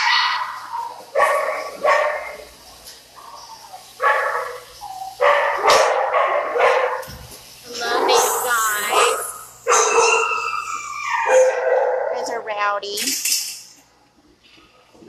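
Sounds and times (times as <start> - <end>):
dogs barking: 0.0 - 12.5.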